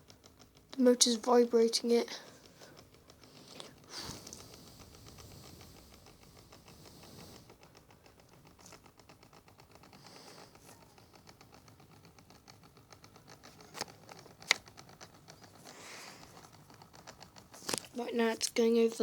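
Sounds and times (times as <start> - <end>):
model train ticking and rattling: 0.0 - 19.0
sharp clicks: 0.0 - 19.0.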